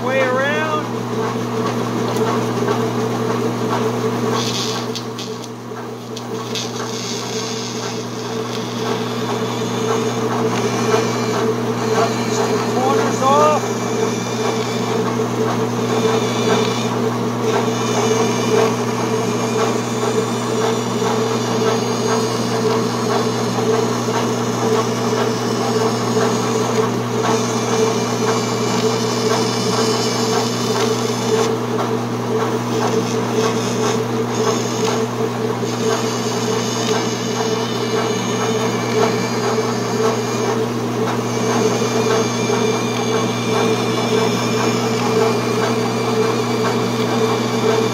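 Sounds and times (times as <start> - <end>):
bandsaw motor hum: 0.0 - 47.9
bandsaw blade cutting plastic: 4.3 - 31.6, 32.4 - 47.9.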